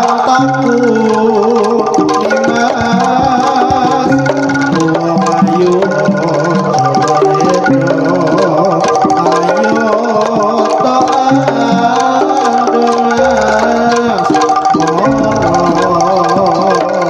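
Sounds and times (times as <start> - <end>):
gamelan music: 0.0 - 17.0
hand drums: 0.0 - 17.0.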